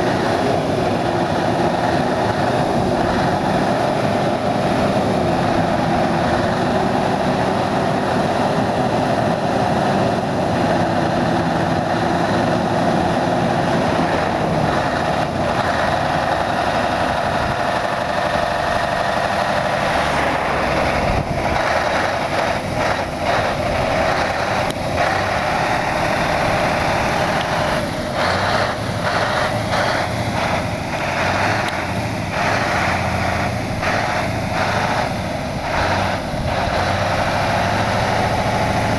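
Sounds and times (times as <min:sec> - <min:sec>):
truck diesel engine: 0:00.0 - 0:38.9.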